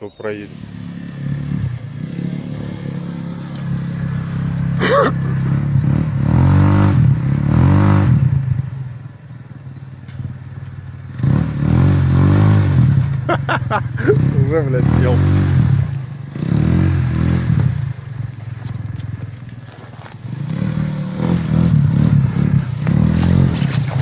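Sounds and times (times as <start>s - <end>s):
quad bike engine revving: 0.2s - 24.0s.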